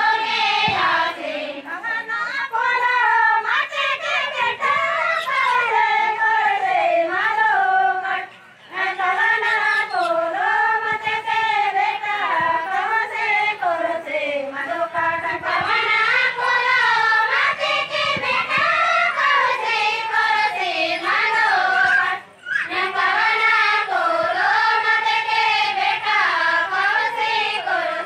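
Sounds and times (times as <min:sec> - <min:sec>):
women singing together: 0:00.0 - 0:28.0.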